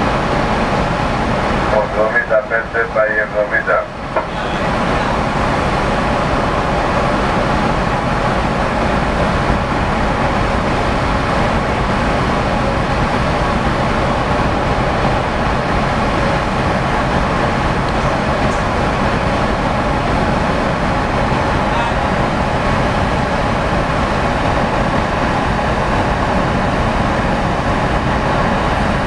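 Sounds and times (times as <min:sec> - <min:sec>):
ship engines rumbling: 0:00.0 - 0:29.0.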